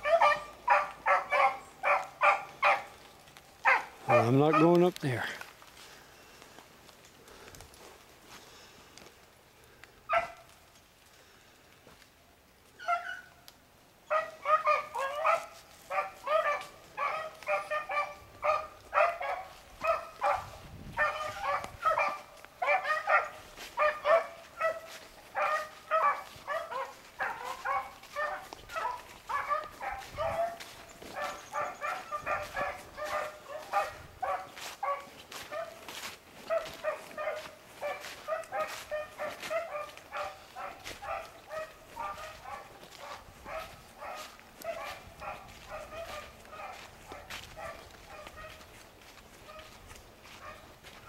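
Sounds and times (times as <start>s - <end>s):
dogs baying and barking: 0.0s - 5.4s, 10.0s - 10.6s, 12.7s - 13.4s, 14.0s - 51.0s.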